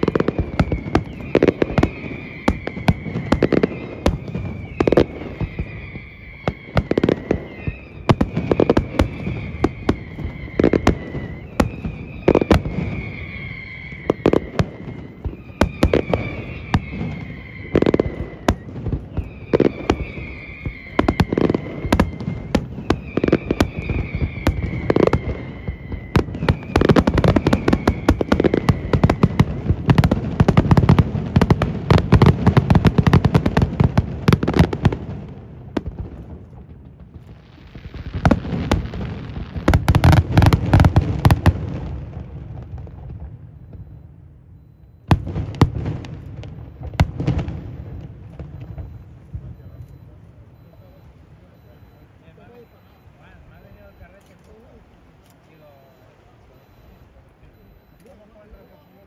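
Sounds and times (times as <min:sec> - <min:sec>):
firework bangs and crackles: 0:00.0 - 0:59.0
firework whistles: 0:00.0 - 0:59.0.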